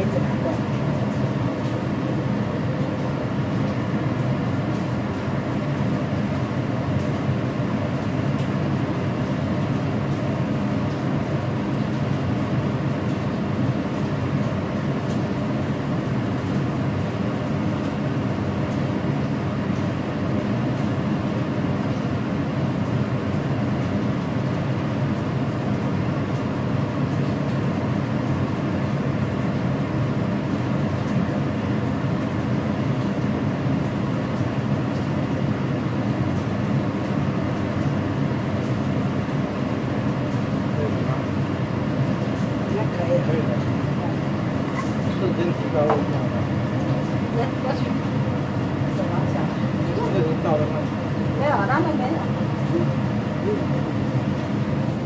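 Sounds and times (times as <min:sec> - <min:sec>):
gas burner roaring: 0:00.0 - 0:55.0.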